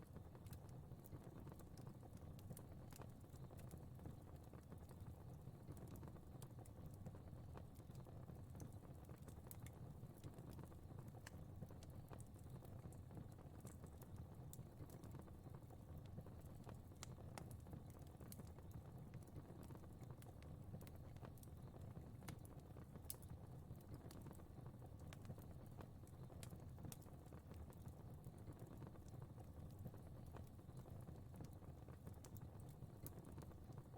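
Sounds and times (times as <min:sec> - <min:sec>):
fire crackling and popping: 0:00.0 - 0:33.9
low fire rumble: 0:00.0 - 0:33.9.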